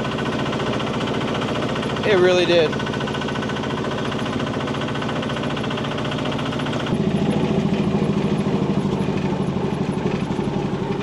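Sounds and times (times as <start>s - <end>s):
tractor engine chugging: 0.0s - 11.0s.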